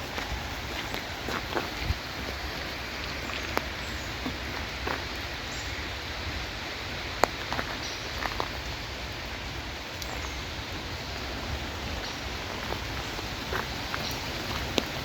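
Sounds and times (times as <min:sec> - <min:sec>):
raindrop ticks: 0:00.0 - 0:05.4, 0:07.1 - 0:15.0
steady rain falling: 0:00.0 - 0:15.0.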